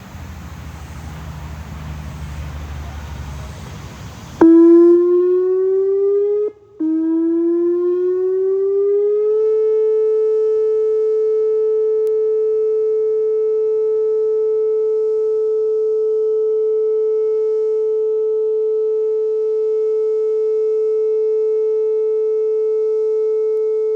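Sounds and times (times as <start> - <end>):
electronic warning siren: 4.4 - 23.9.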